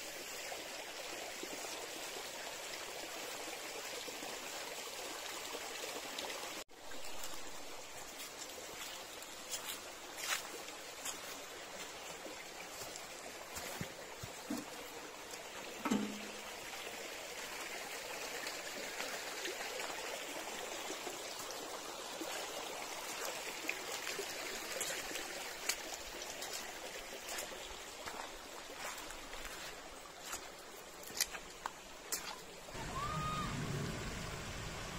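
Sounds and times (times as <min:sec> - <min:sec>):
stream flowing and trickling: 0:00.0 - 0:34.9.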